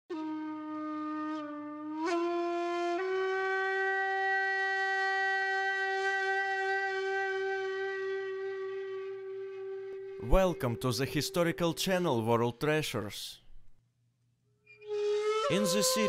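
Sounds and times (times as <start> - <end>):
wind instrument holding long notes: 0.1 - 11.8, 14.8 - 16.0.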